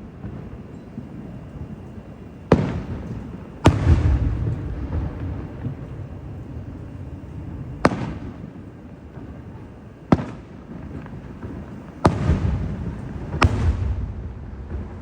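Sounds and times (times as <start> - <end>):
continuous low rumble: 0.0 - 15.0
firework bangs: 0.0 - 15.0.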